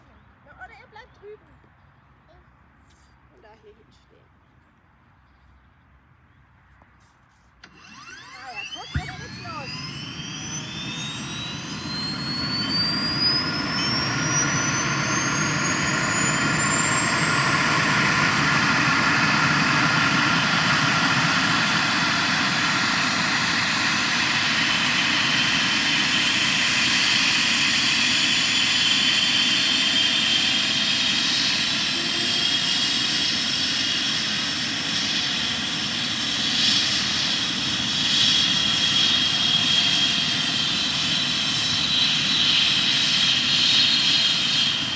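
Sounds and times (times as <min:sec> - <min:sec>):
helicopter turbine engines starting up: 0:07.6 - 0:44.9.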